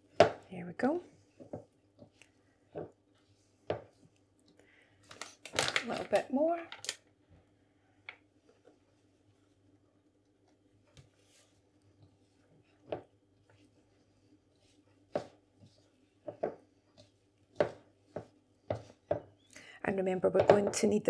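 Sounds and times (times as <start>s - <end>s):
hands working dough in bowl: 0.0s - 7.4s, 8.1s - 21.0s.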